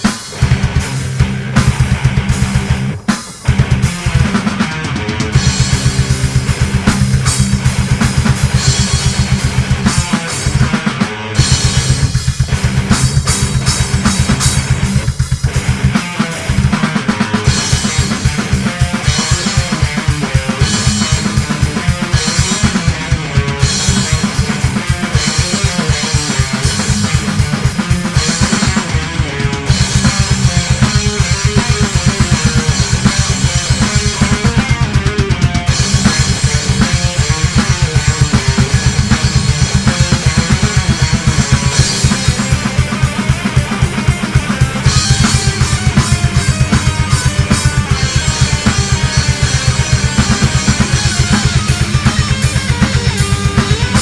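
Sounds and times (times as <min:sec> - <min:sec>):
death metal drums and guitar: 0:00.0 - 0:54.0.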